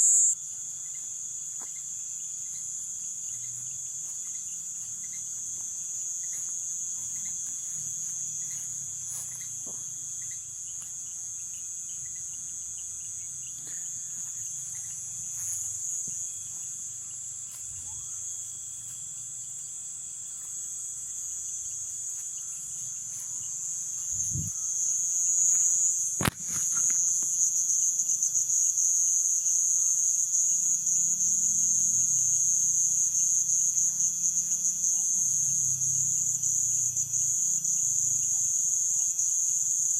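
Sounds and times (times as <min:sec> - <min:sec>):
high-pitched insect drone: 0:00.0 - 0:39.9
low steady insect tone: 0:00.0 - 0:39.9.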